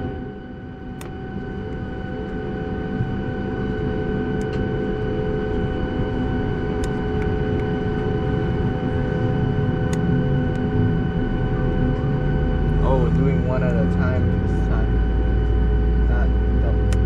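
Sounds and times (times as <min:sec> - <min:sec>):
jet engine rumble and whine: 0:00.0 - 0:17.0.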